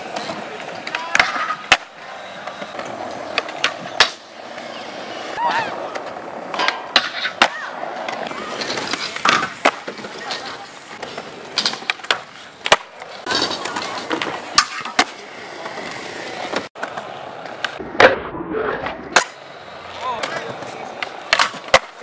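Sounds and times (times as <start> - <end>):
skateboard clacks: 0.0 - 18.1, 19.1 - 22.0
skateboard rolling on concrete: 0.0 - 22.0
skateboard sliding on ledge: 0.0 - 22.0.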